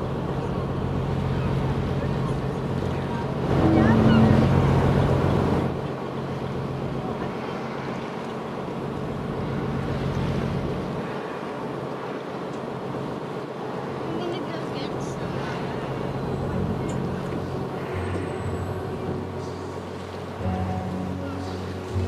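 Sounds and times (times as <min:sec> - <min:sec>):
boat engine humming: 0:00.0 - 0:22.0
water noise: 0:00.0 - 0:22.0.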